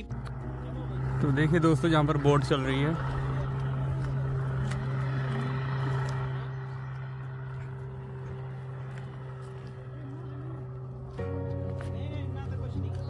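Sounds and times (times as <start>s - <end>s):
motorboat engine drone: 0.0s - 13.0s.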